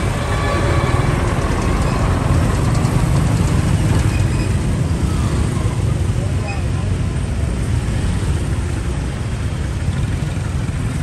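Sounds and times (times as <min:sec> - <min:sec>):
street traffic engine rumble: 0:00.0 - 0:11.0.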